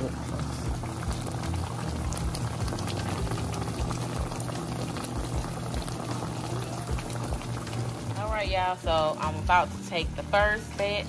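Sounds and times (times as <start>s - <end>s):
pot boiling with dense bubbling: 0.0s - 11.0s.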